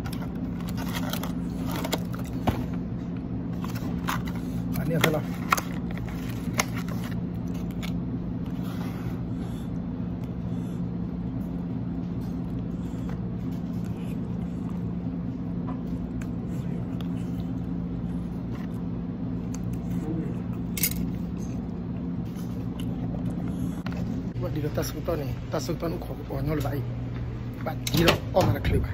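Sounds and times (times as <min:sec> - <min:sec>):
low machine hum: 0:00.0 - 0:28.9.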